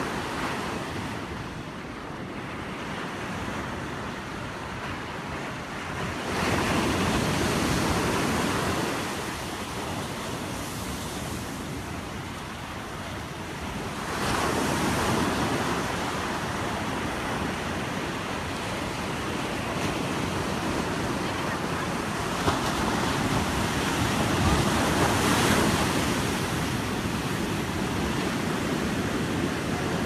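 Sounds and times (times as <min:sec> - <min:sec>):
ocean surf on a beach: 0:00.0 - 0:30.0.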